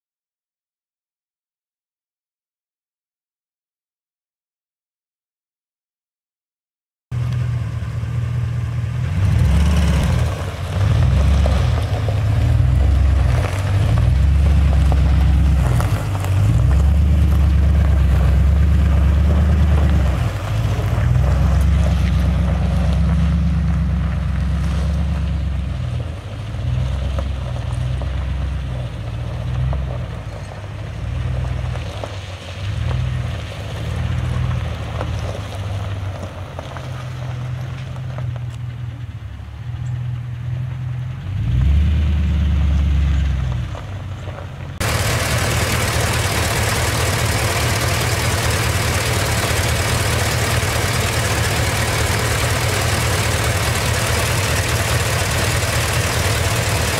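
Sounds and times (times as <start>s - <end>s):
truck engine idling: 7.2s - 56.9s.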